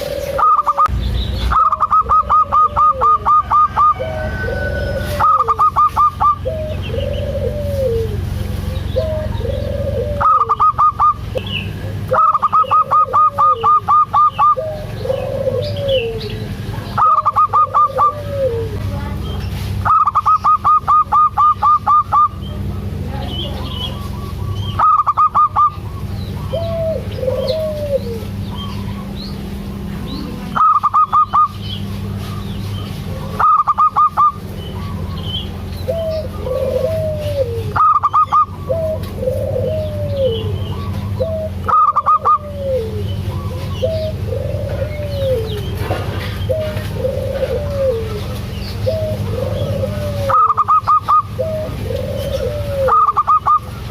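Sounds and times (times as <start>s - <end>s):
dove cooing: 0.0s - 53.9s
steady low hum: 0.0s - 53.9s.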